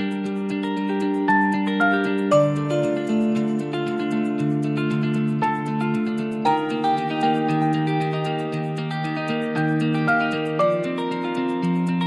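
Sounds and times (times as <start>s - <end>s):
gentle instrumental music: 0.0s - 12.0s.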